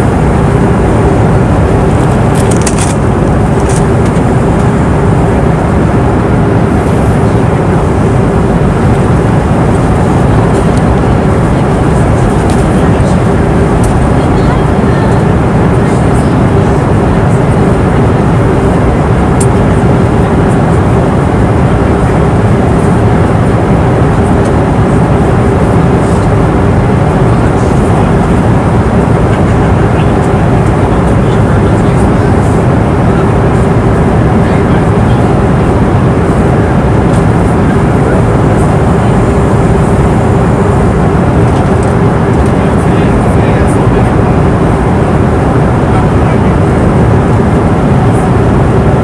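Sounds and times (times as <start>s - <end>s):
constant hum: 0.0s - 49.0s
engine and airflow rush: 0.0s - 49.0s.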